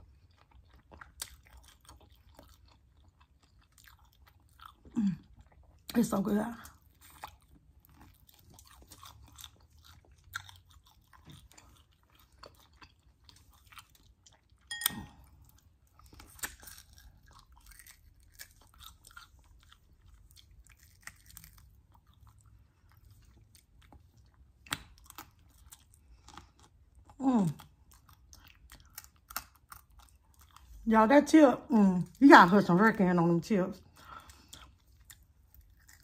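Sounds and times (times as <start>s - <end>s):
crunchy chewing of fried chicken: 0.0s - 30.9s, 33.8s - 36.0s.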